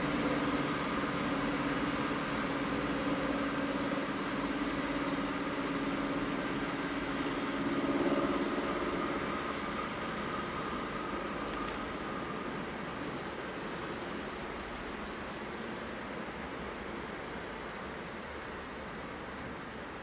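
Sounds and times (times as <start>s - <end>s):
train running hum: 0.0s - 20.0s.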